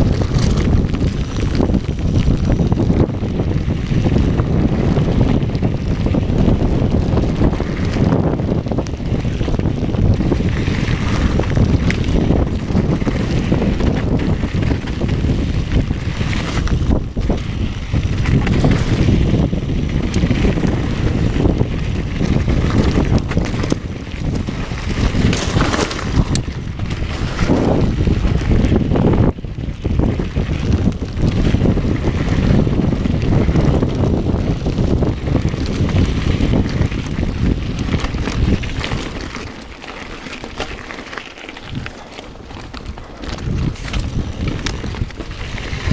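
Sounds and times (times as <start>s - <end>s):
bike tyres rattling over stones: 0.0s - 45.9s
wind on microphone: 0.0s - 45.9s.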